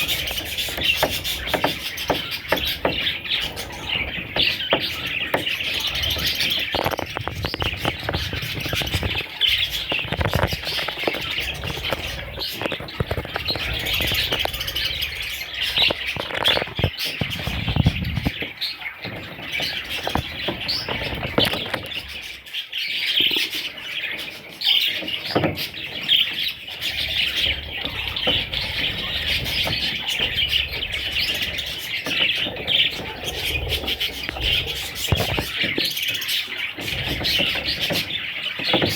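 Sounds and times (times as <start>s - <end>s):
budgerigars chirping: 0.0s - 38.9s
wings rustling and fluttering: 0.0s - 38.9s.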